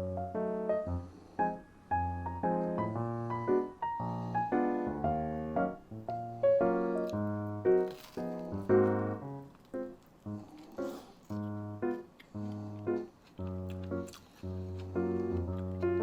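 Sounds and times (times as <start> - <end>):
light keyboard melody: 0.0 - 16.0.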